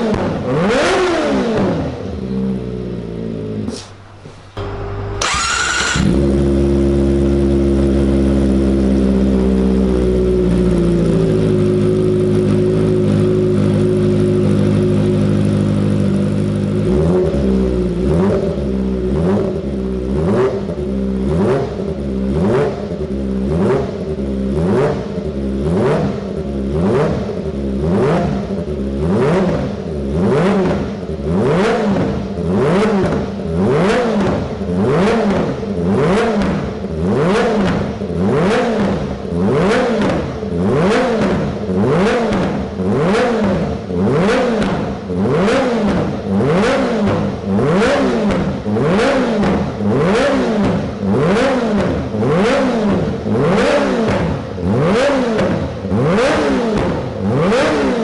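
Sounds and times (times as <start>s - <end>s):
motorcycle engine revving: 0.0s - 58.0s
motorcycle engine idling: 0.4s - 57.9s.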